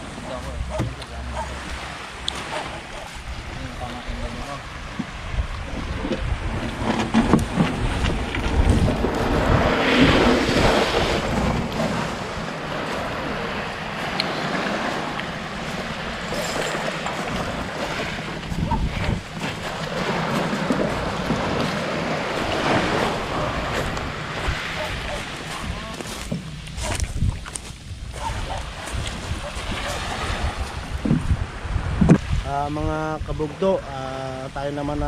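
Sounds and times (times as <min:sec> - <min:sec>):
small waves washing on shore: 0:00.0 - 0:35.0
wind rumbling on microphone: 0:00.0 - 0:35.0
boat knocks and scrapes: 0:00.1 - 0:03.3, 0:04.8 - 0:32.3.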